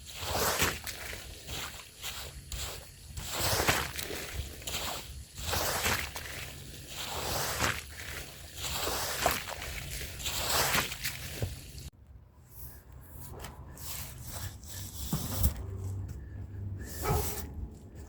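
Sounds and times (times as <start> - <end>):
hand brush scrubbing a wet rug: 0.0 - 11.9, 12.5 - 17.6.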